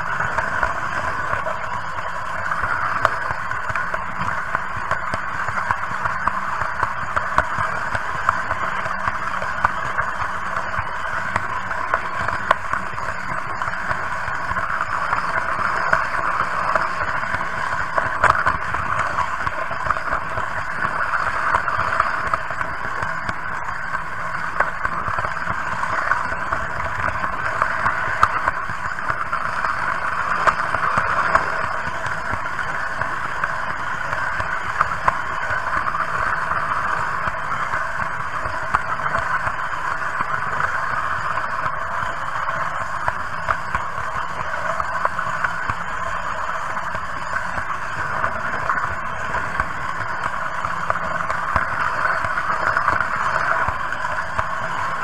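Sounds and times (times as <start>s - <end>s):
small track clicks: 0.0s - 55.0s.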